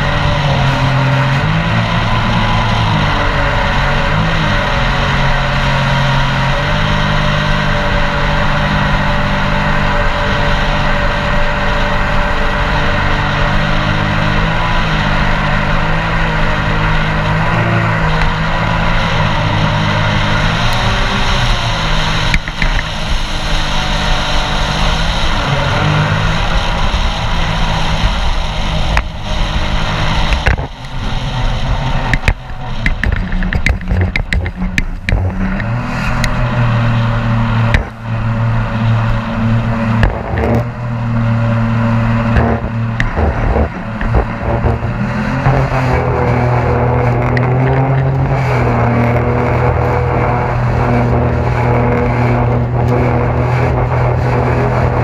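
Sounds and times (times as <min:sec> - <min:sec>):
jet boat engine running: 0:00.0 - 0:55.0
water rushing: 0:00.0 - 0:55.0
wind: 0:00.0 - 0:55.0.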